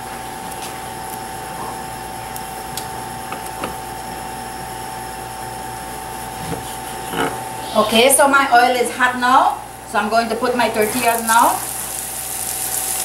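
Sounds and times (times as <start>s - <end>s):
constant high whine: 0.0s - 13.0s
steady hum: 0.0s - 13.0s.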